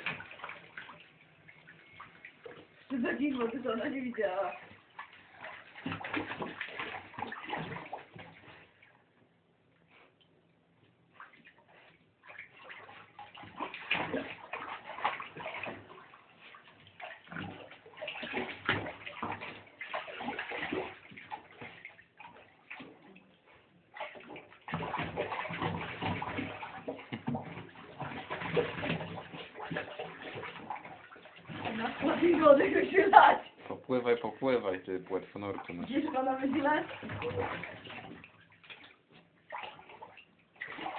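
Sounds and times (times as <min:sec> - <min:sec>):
dog splashing in water: 0:00.0 - 0:09.0, 0:11.1 - 0:33.8, 0:34.5 - 0:40.9.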